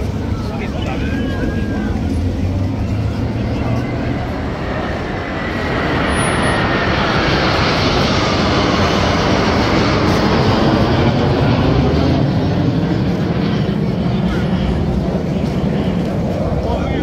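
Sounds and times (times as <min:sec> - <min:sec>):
jets passing overhead: 0:00.0 - 0:17.0.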